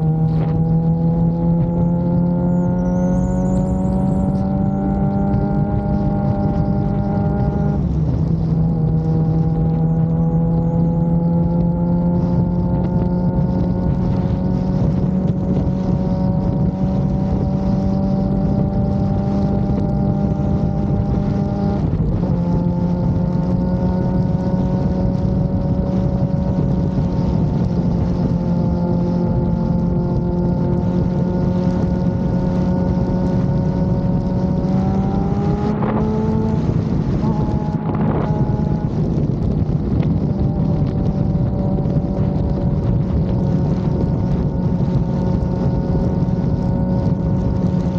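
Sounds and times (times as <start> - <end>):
motorcycle engine cruising: 0.0 - 47.9
wind rushing over microphone: 0.0 - 47.9.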